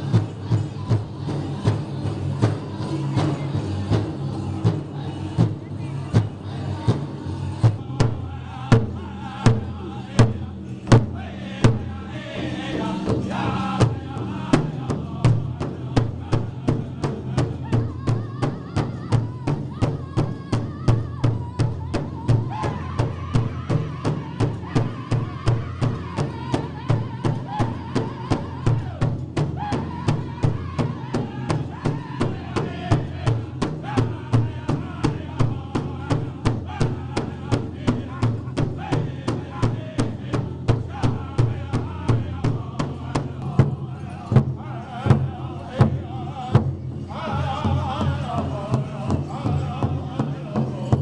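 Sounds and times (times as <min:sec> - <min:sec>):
drum and singing group: 0:00.0 - 0:51.0
large hide drum beating: 0:00.0 - 0:51.0
men singing in high voices: 0:00.0 - 0:51.0.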